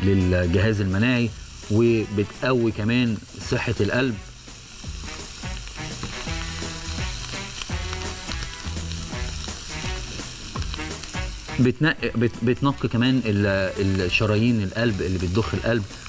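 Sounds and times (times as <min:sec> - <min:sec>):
okra sizzling in hot oil: 0:00.0 - 0:16.0.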